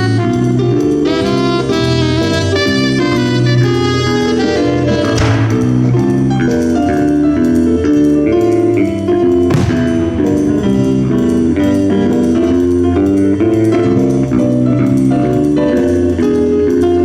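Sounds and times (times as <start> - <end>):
jazz band playing: 0.0 - 17.0.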